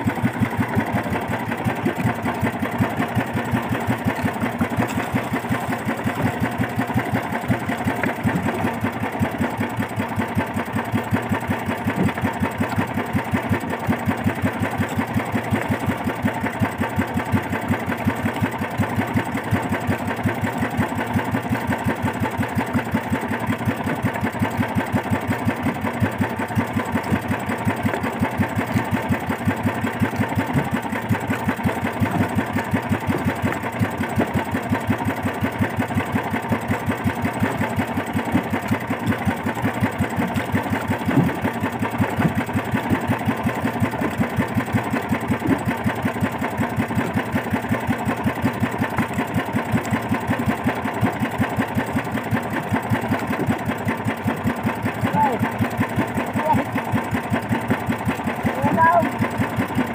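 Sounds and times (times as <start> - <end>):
small boat engine idling: 0.0 - 59.9.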